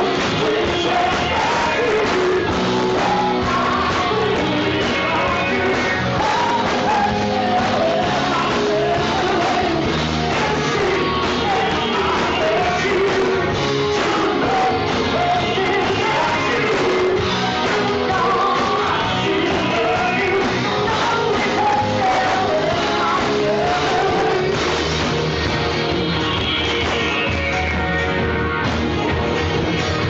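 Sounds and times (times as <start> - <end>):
woman singing into a microphone: 0.0 - 24.6
rock band playing: 0.0 - 30.0.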